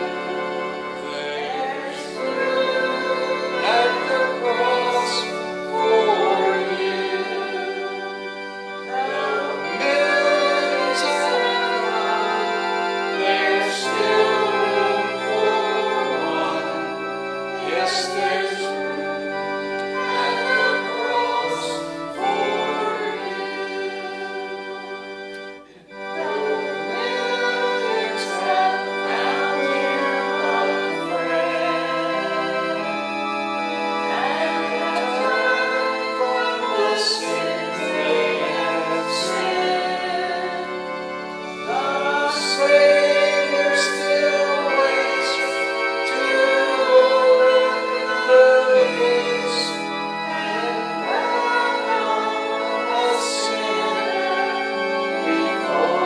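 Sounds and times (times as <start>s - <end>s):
congregation singing a hymn: 0.0s - 56.0s
instrumental accompaniment: 0.0s - 56.0s.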